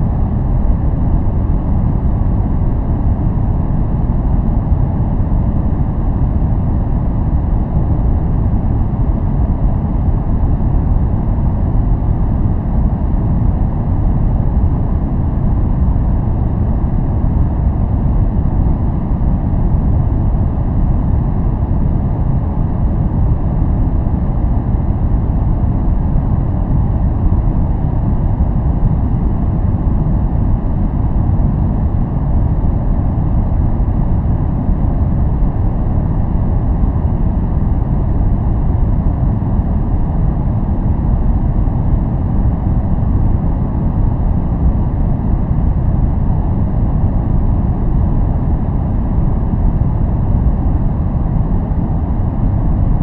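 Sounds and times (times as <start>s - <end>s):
deep muffled white noise: 0.0s - 53.0s.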